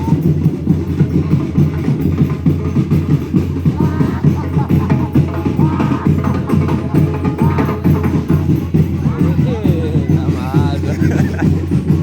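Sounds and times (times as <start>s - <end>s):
bass-heavy rhythmic music: 0.0s - 12.0s.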